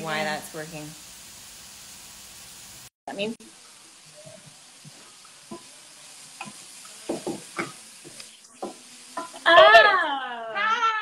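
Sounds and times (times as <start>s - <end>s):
food sizzling in a frying pan: 0.0s - 10.3s.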